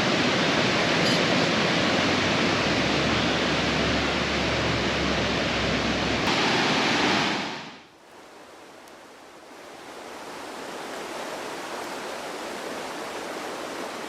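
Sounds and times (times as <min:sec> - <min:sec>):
fast river rushing: 0:00.0 - 0:14.0.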